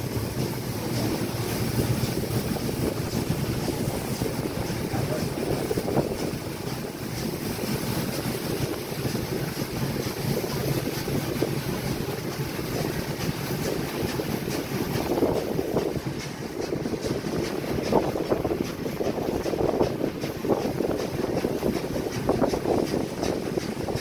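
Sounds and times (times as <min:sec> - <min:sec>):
train rumbling on track: 0:00.0 - 0:24.0
wind rushing over microphone: 0:01.6 - 0:24.0.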